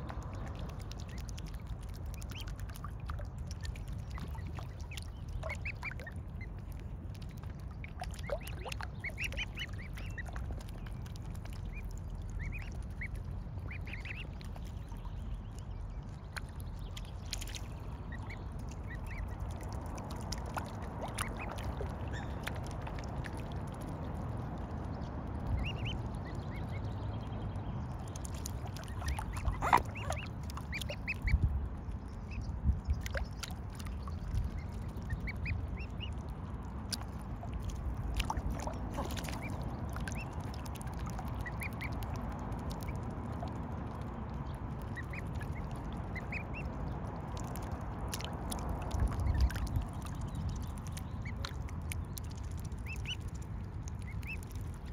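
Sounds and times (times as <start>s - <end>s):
low background rumble: 0.0s - 54.9s
cygnets peeping: 0.1s - 22.8s, 23.8s - 37.4s, 38.4s - 43.6s, 44.5s - 47.3s, 49.0s - 53.4s, 54.0s - 54.8s.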